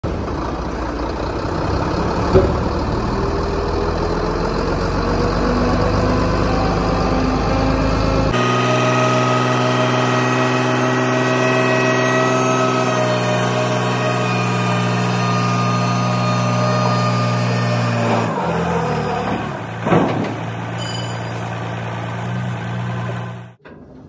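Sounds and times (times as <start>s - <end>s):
diesel truck engine under load: 0.0s - 24.0s
hydraulic arm whining: 1.6s - 23.6s.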